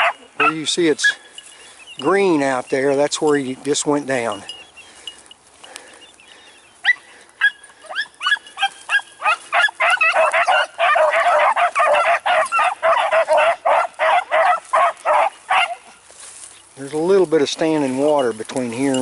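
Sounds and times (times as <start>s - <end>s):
hounds baying: 0.0s - 19.0s.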